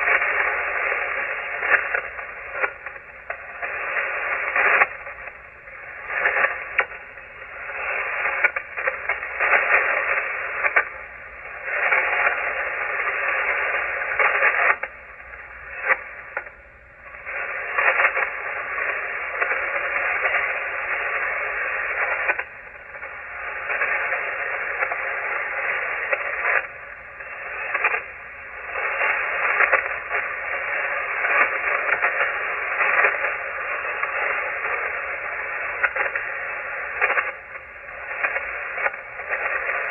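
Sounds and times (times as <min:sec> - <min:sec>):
radio static hissing and crackling: 0:00.0 - 0:39.9.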